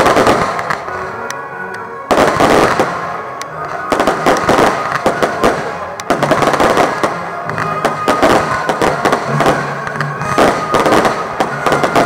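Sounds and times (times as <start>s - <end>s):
firework bangs and crackles: 0.0s - 12.0s
music playing: 0.0s - 12.0s.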